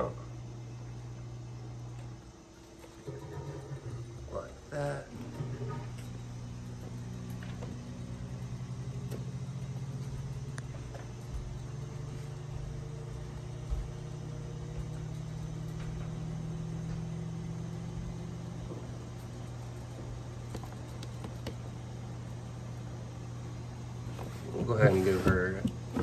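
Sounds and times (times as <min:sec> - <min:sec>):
electric motor humming: 0:00.0 - 0:26.0.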